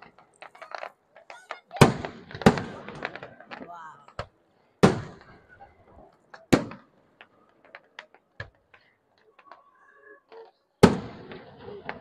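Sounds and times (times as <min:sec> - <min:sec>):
fireworks bangs: 0:00.0 - 0:12.0
fireworks pops and crackles: 0:00.0 - 0:12.0.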